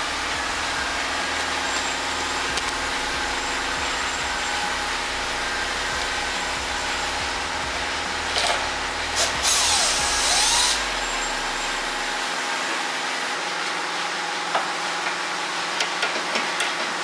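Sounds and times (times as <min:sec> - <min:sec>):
steady machine hum: 0:00.0 - 0:15.8.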